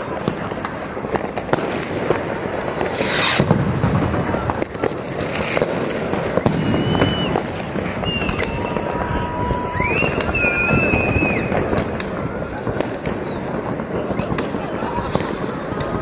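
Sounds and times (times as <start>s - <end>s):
firework bangs and cracks: 0.0s - 16.0s
rumble of distant explosions: 0.0s - 16.0s
firework whistles: 1.6s - 16.0s.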